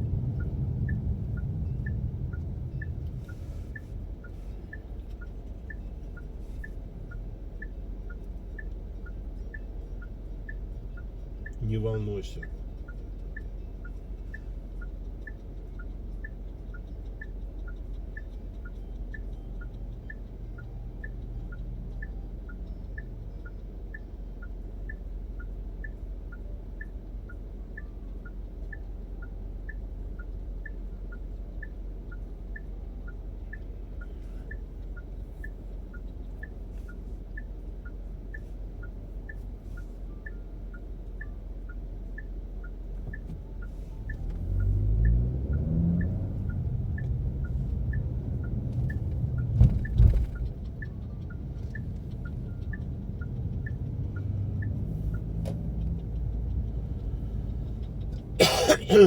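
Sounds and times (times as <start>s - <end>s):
car indicator ticking: 0.0s - 59.0s
low car rumble: 0.0s - 59.0s.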